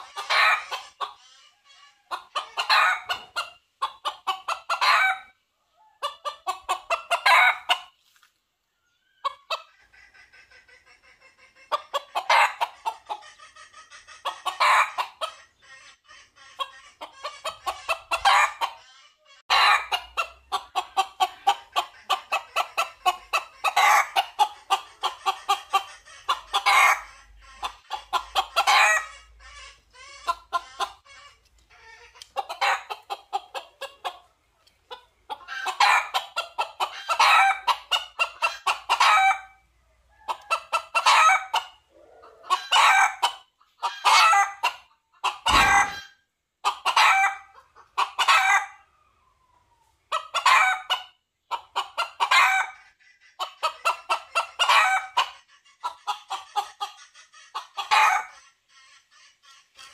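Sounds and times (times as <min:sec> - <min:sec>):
rooster clucking: 0:00.0 - 0:08.0, 0:08.9 - 0:59.9.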